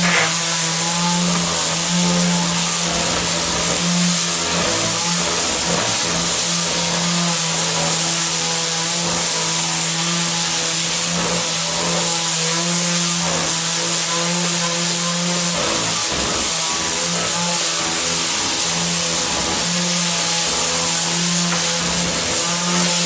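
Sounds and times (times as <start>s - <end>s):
electric sander running: 0.0s - 23.0s.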